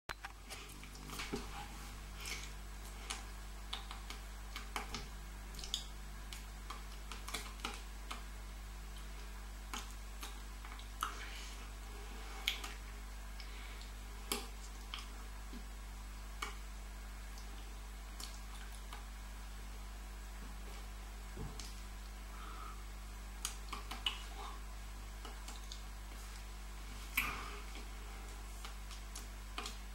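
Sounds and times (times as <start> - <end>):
steady low hum: 0.1 - 29.9.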